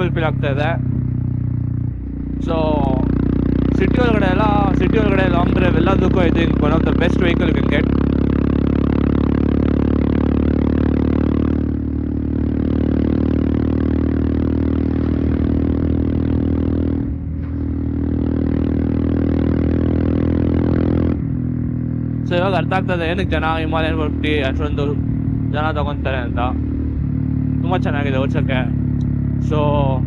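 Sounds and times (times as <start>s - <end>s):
motorcycle engine and exhaust: 0.0s - 30.0s.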